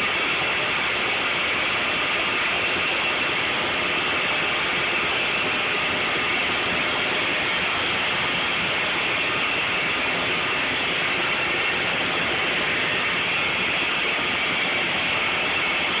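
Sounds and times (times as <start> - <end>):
mill machinery running: 0.0 - 16.0.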